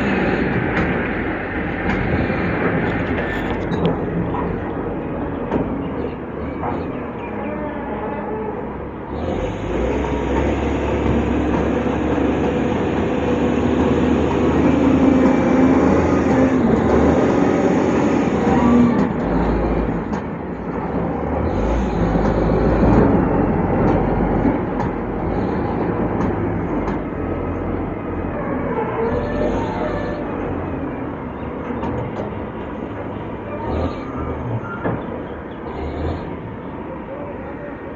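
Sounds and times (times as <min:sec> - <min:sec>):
heavy diesel engine under load: 0:00.0 - 0:37.9.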